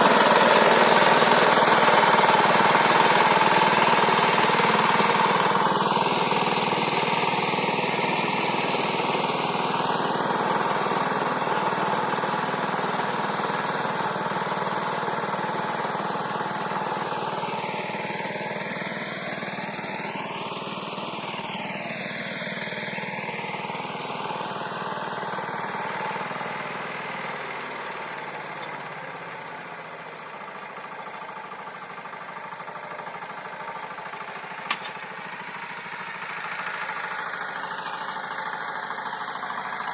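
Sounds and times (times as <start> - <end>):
rotary tiller working soil: 0.0 - 39.9
walk-behind tractor engine running: 0.0 - 39.9.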